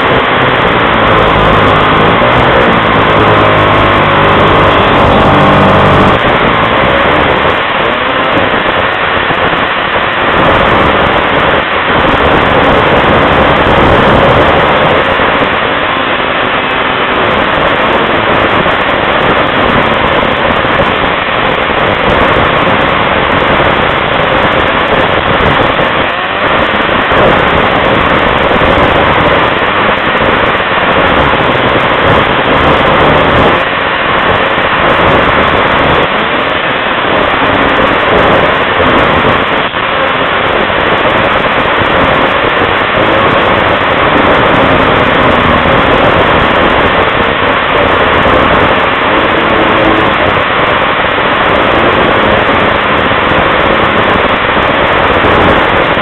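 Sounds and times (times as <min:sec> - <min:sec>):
snowmobile engine running: 0:00.0 - 0:56.0
steady rushing noise: 0:00.0 - 0:56.0.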